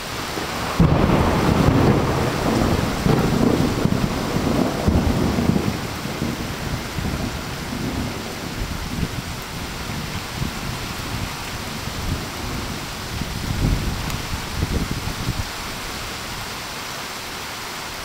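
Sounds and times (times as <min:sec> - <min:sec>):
thunder rumble: 0:00.0 - 0:15.5
heavy rain hiss: 0:00.0 - 0:18.0.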